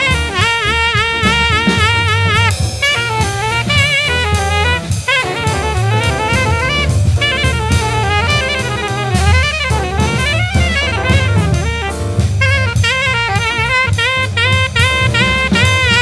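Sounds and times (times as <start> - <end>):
bass: 0.0 - 16.0
drum kit: 0.0 - 16.0
horn playing fast melody: 0.0 - 16.0.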